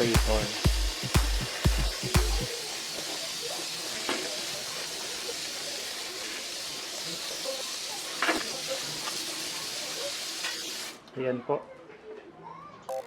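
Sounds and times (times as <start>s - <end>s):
water spray hissing: 0.0s - 11.0s.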